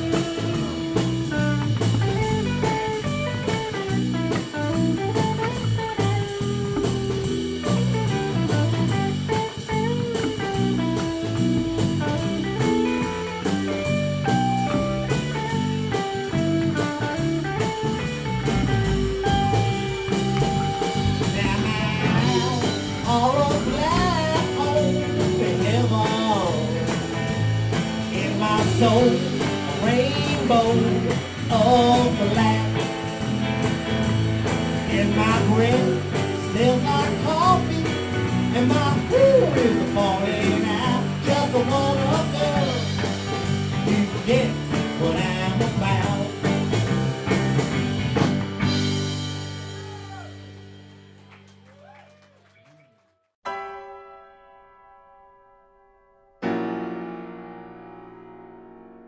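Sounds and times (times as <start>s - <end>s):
blues-rock song: 0.0s - 51.5s
drum kit beat: 0.0s - 52.0s
guitar: 0.0s - 52.8s, 53.4s - 59.0s.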